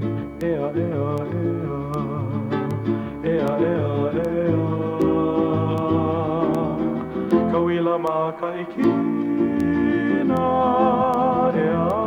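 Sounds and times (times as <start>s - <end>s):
guitar accompaniment: 0.0s - 12.0s
person singing: 0.1s - 12.0s.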